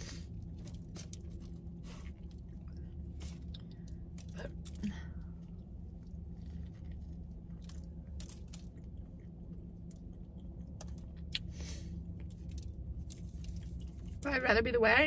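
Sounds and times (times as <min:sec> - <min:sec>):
close chewing and crunching: 0:00.0 - 0:14.3
steady low hum: 0:00.0 - 0:15.0.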